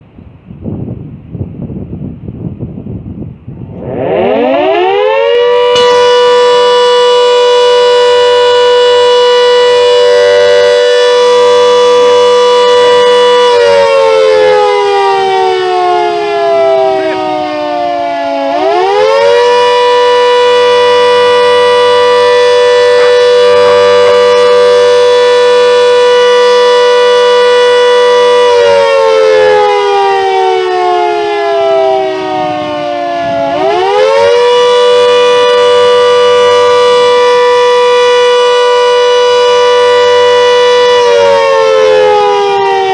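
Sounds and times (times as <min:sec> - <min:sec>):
fire siren wailing: 0:01.7 - 0:42.9.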